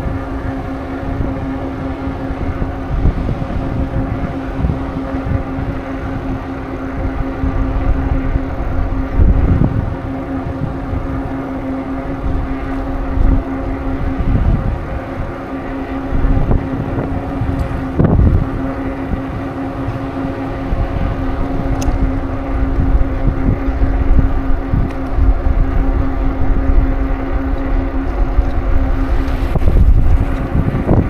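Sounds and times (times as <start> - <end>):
steady humming tone: 0.0 - 31.0
wind buffeting microphone: 0.0 - 31.0.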